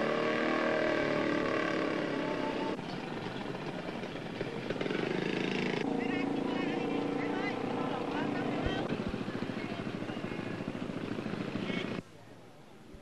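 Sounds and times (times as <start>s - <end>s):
small motorcycle engines running: 0.0s - 12.0s
busy street traffic: 0.0s - 13.0s.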